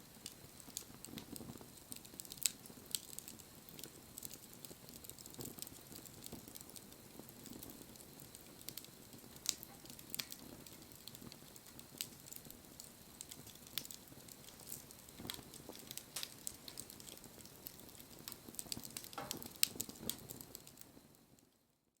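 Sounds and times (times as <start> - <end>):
campfire crackling and popping: 0.0 - 21.6.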